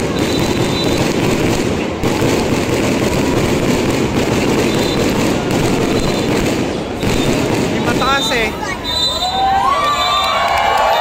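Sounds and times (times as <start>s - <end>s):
fireworks crackling: 0.0s - 9.4s.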